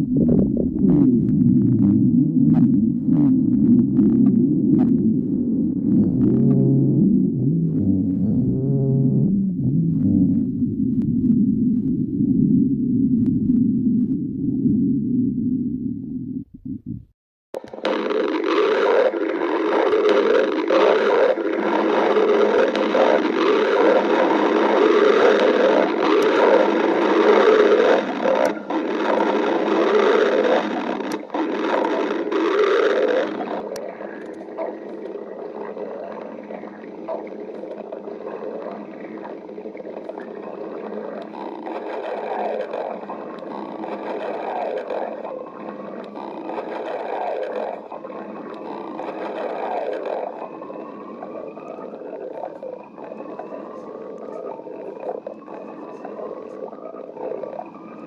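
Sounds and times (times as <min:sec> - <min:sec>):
stomach growling and gurgling: 0:00.0 - 0:58.0.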